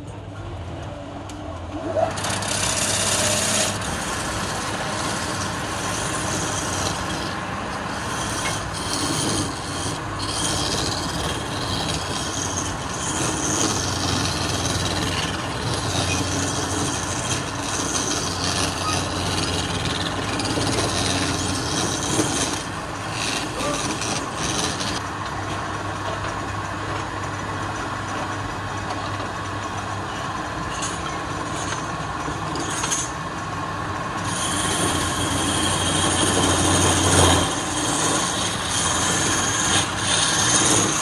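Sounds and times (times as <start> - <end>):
chisel scraping spinning wood: 1.8 - 25.0, 29.6 - 33.2, 34.2 - 41.0
wood lathe humming: 2.0 - 27.7, 31.2 - 41.0.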